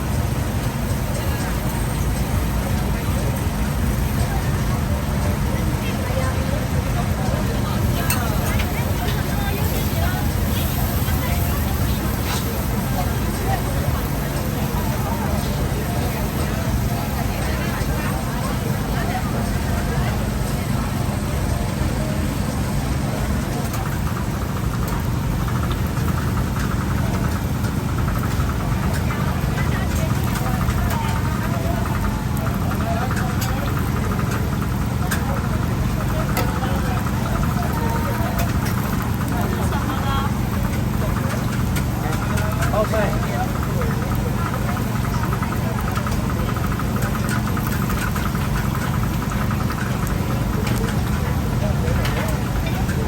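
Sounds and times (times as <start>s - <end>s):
engine humming: 0.0s - 53.0s
faint chatter of voices: 0.0s - 53.0s
low mechanical rumble: 0.0s - 53.0s.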